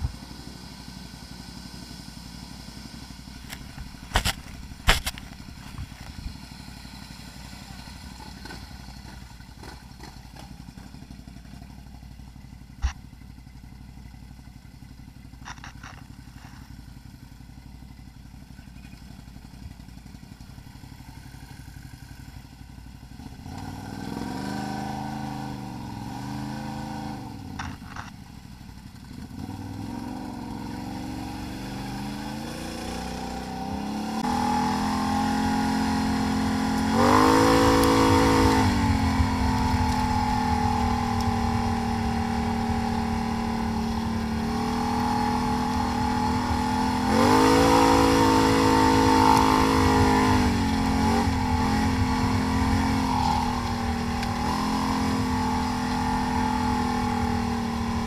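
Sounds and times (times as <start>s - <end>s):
atv engine revving: 0.0s - 13.2s, 14.7s - 58.0s.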